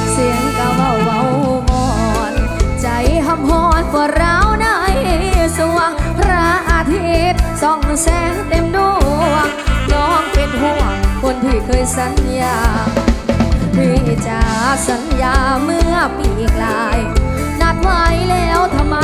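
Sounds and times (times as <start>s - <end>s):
live band playing folk music: 0.0s - 19.0s
ornamented melody line: 0.0s - 19.0s
steady drum beat: 0.0s - 19.0s.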